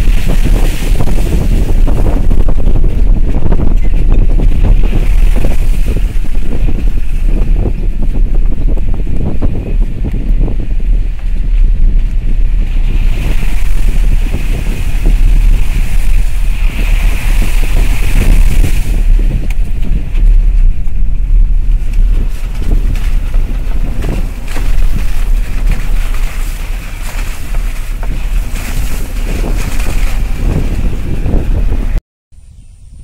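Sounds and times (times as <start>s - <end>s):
moving vehicle rumble: 0.0s - 33.0s
wind buffeting microphone: 0.0s - 33.0s.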